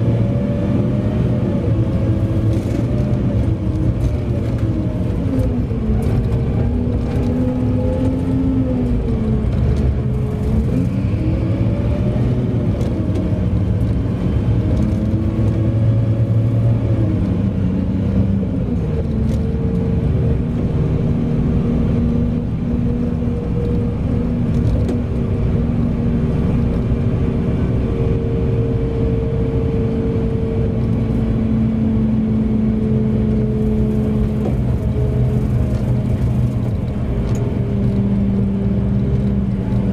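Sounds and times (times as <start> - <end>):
truck diesel engine running: 0.0 - 18.2, 18.8 - 39.9.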